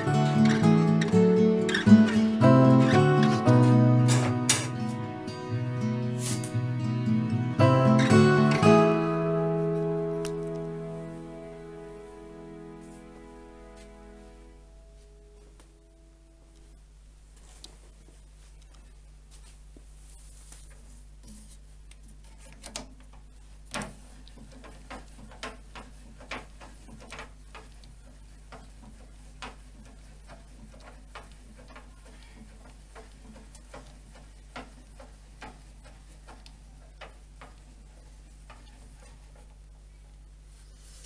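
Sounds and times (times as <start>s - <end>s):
faint low hum: 6.6s - 41.0s.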